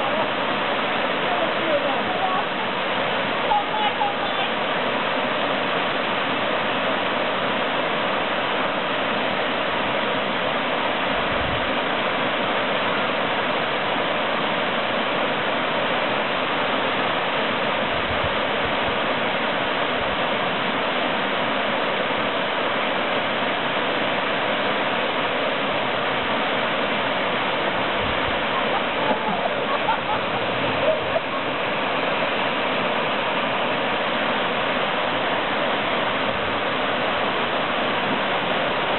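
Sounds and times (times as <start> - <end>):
waterfall rushing into a pool: 0.0 - 38.9.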